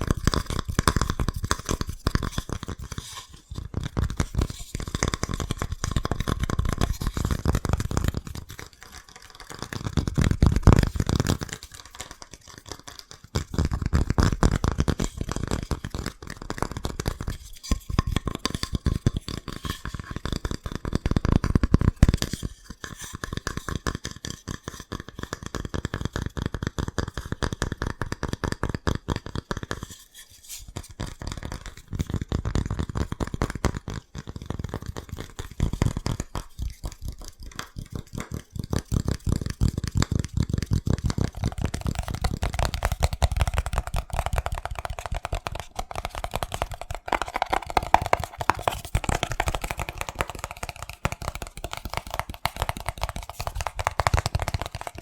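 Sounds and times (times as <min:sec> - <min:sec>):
fingertips tapping hard objects: 0:00.0 - 0:55.0.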